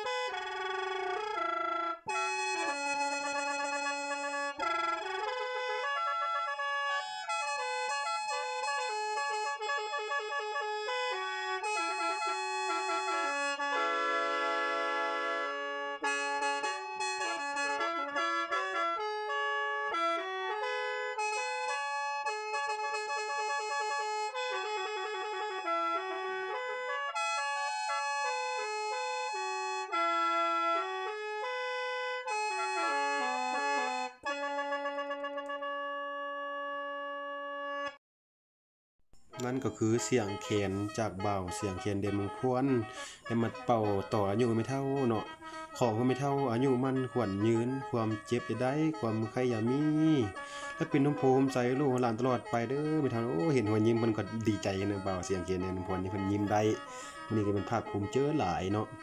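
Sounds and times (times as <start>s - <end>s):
bamboo mouth organ melody: 0.0s - 35.6s, 39.3s - 59.0s.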